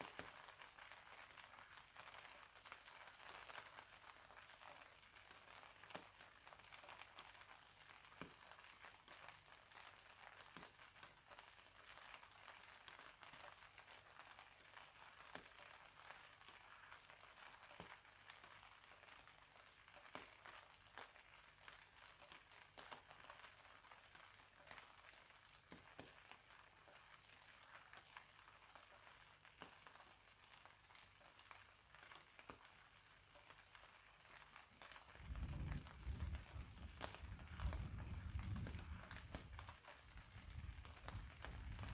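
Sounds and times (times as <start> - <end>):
faint steady rainfall: 0.0 - 41.9.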